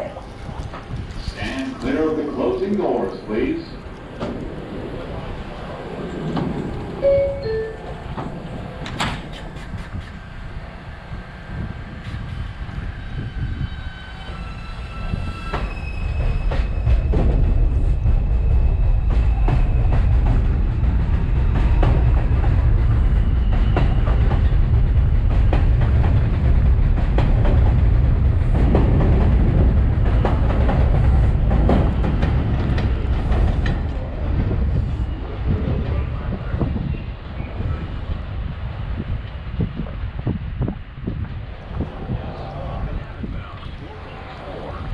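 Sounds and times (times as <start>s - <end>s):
subway train motors whining: 0.0s - 44.9s
train cars rumbling past: 0.0s - 44.9s.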